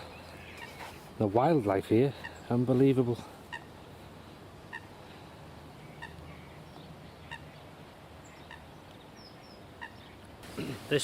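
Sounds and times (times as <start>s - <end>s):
water bird calling: 0.0s - 1.1s, 2.1s - 2.6s, 3.4s - 10.9s.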